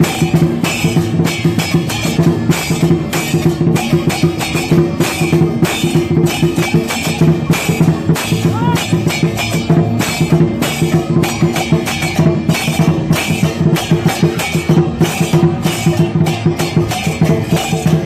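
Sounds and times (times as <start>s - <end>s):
crashing cymbals: 0.0s - 18.0s
large drum beating: 0.0s - 18.0s.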